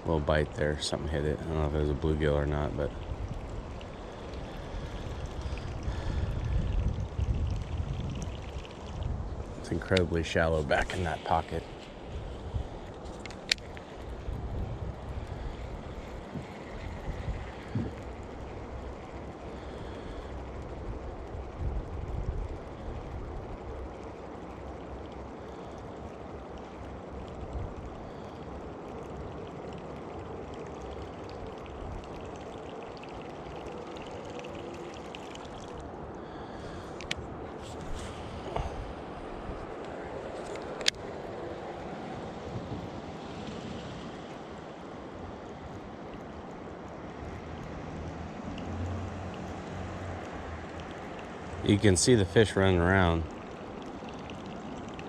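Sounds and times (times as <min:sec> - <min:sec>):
wind rumbling on microphone: 0:00.0 - 0:25.0, 0:34.4 - 0:53.7
water sloshing and trickling: 0:00.0 - 0:55.0.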